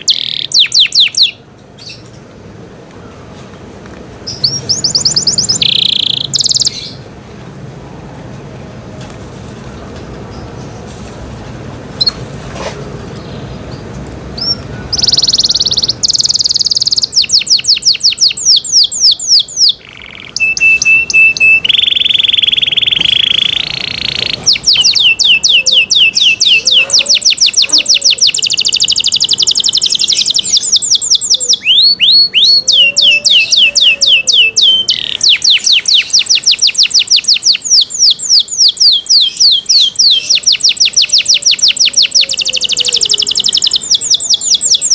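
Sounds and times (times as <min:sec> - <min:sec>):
canary singing in trills: 0:00.0 - 0:02.4, 0:04.2 - 0:07.1, 0:11.9 - 0:12.3, 0:12.9 - 0:44.9.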